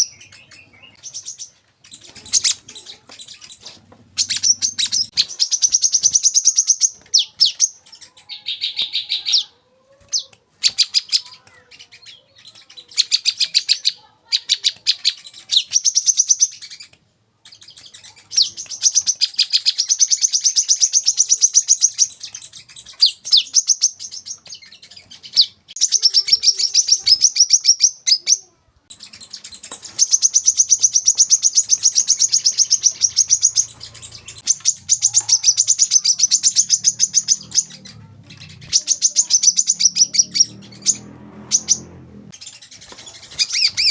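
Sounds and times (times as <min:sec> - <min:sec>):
bird singing high sharp chirps: 0:00.0 - 0:09.5, 0:17.5 - 0:43.9.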